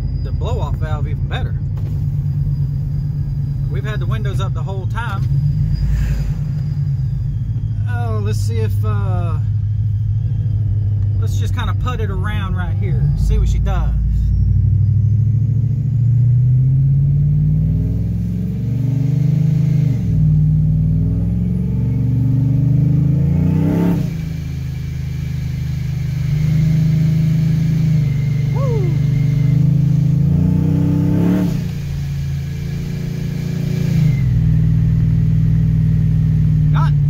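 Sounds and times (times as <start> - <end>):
truck engine accelerating: 0.0 - 37.0.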